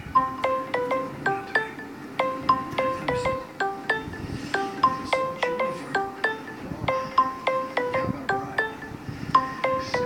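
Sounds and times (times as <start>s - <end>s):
chiming alarm melody: 0.0s - 10.0s.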